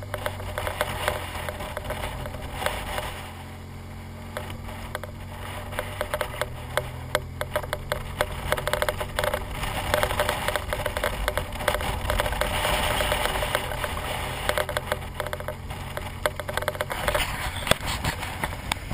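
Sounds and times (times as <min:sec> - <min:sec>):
sharp clicks and ticks: 0:00.0 - 0:03.3, 0:04.3 - 0:18.9
motorcycle engine running: 0:00.0 - 0:18.9
wind noise: 0:00.0 - 0:18.9.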